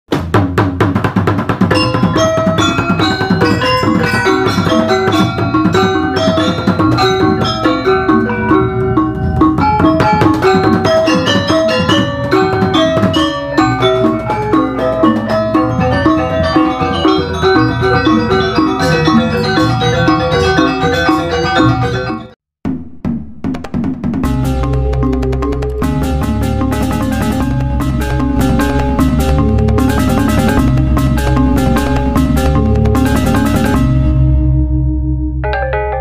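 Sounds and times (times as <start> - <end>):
steady drum beat: 0.1 - 19.9, 22.6 - 34.2
gamelan music: 1.7 - 22.4, 24.2 - 34.8, 35.4 - 36.0
metallic mallet strikes: 1.7 - 34.4.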